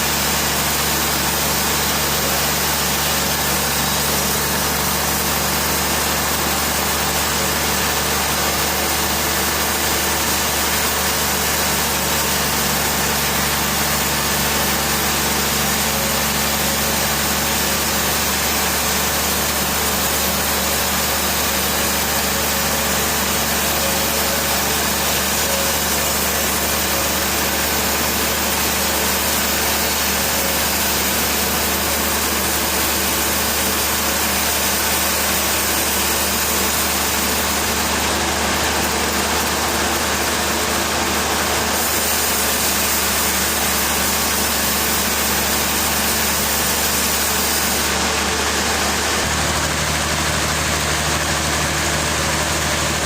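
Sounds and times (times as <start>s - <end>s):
heavy machinery hum: 0.0s - 53.0s.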